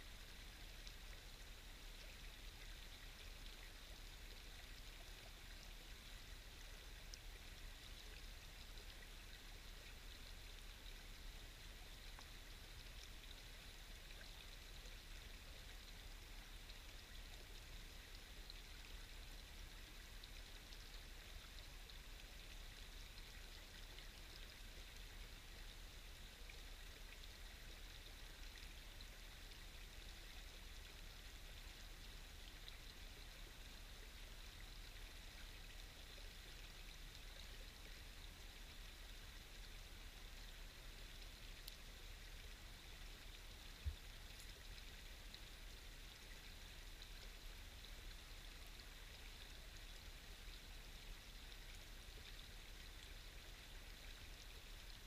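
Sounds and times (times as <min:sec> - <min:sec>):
stream babbling: 0:00.0 - 0:55.0.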